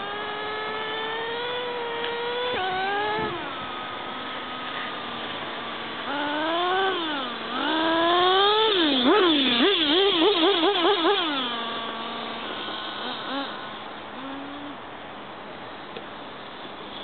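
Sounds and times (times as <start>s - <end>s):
electric motor and propeller whining: 0.0s - 17.0s.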